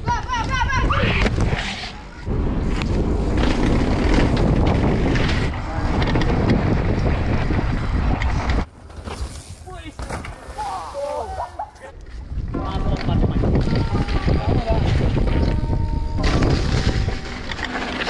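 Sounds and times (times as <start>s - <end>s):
wind buffeting microphone: 0.0s - 8.8s, 11.9s - 17.6s.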